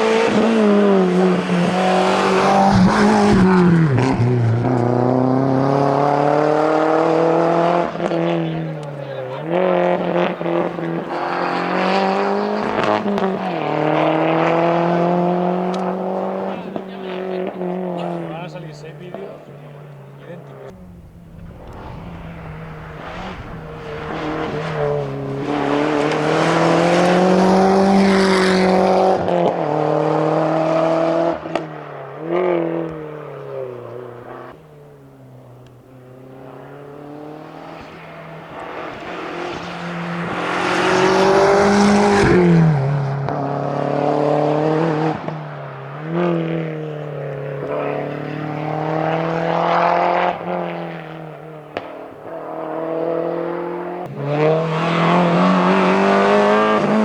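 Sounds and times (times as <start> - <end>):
rally car engine revving past: 0.0 - 57.0.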